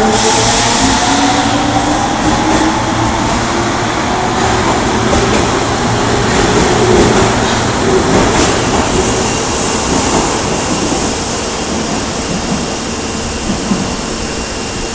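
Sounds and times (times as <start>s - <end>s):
subway train rumbling: 0.0s - 14.9s.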